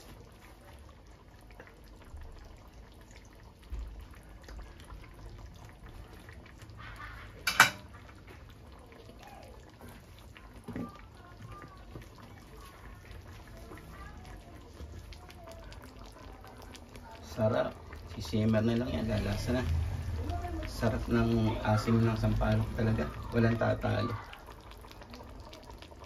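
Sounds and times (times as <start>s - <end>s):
broth simmering in a wok: 0.0s - 26.0s.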